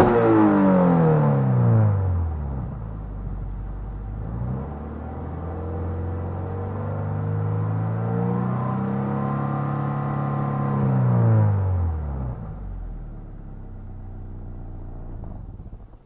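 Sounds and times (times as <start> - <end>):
car engine revving then idling: 0.0 - 16.0.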